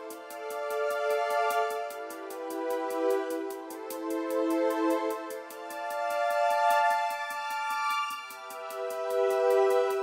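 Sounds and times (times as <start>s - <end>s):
fast ticking beat: 0.0s - 10.0s.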